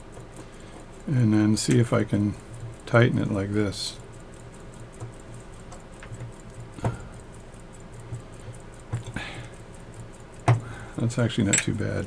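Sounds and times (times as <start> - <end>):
small metal clicks and taps: 1.6 - 3.6, 4.3 - 12.0.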